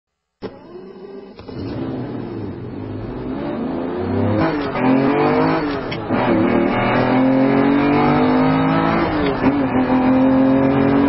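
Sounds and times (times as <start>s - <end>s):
car engine accelerating: 0.4s - 11.0s.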